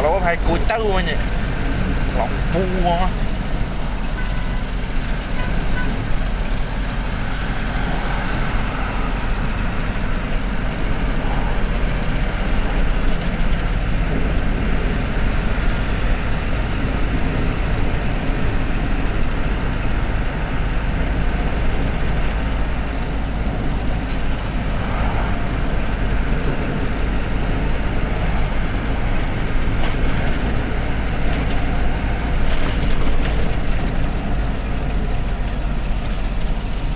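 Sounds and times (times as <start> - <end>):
road noise: 0.0 - 36.9
truck engine droning: 0.0 - 36.9.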